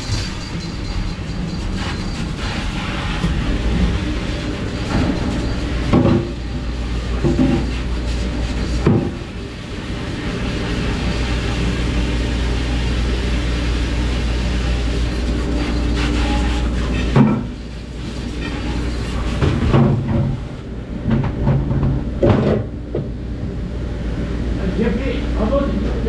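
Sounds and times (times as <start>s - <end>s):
dishwashing machine humming: 0.0s - 26.0s.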